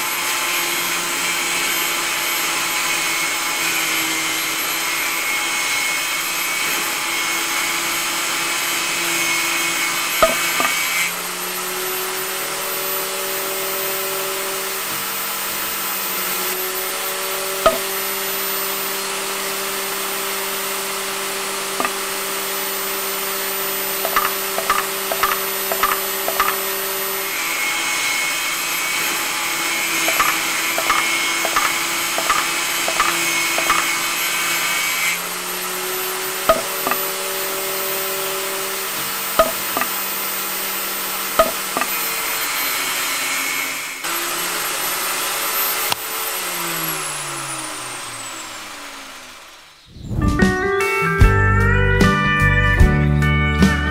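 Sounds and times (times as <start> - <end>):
small saw motor whining: 0.0 - 50.0.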